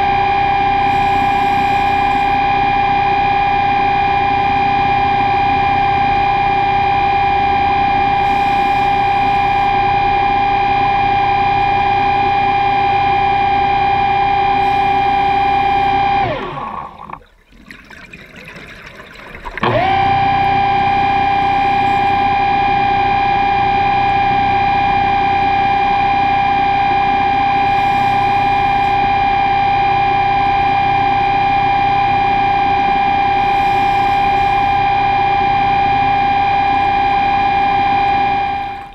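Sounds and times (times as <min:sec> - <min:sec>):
electric motor whine: 0:00.0 - 0:17.2, 0:19.6 - 0:38.9.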